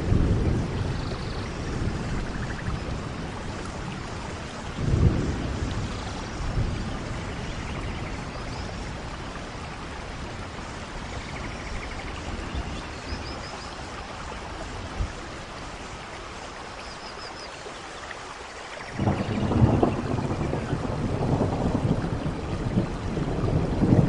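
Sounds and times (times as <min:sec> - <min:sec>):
rain and running water: 0:00.0 - 0:24.0.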